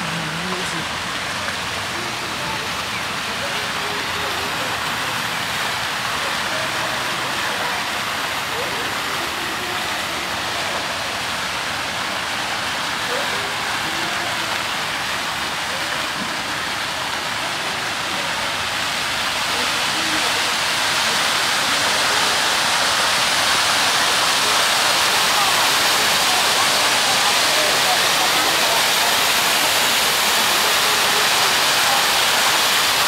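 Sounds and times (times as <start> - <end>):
faint distant voices: 0.0 - 33.0
steady rushing hissing noise: 0.0 - 33.0.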